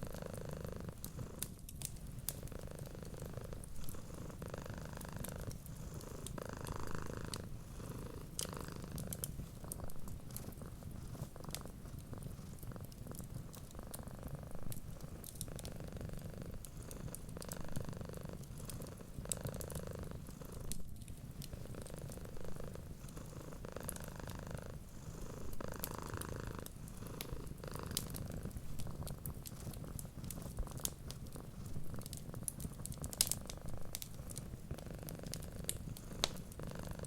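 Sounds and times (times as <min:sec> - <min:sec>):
cat purring: 0:00.0 - 0:37.0
wood fire crackling: 0:01.0 - 0:05.6, 0:08.2 - 0:17.6, 0:18.4 - 0:24.8, 0:25.5 - 0:37.0.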